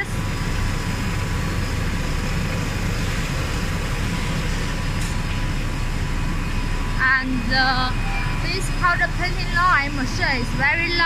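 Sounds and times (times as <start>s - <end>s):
faint steady whine: 0.0s - 11.0s
machinery low drone: 0.0s - 11.0s.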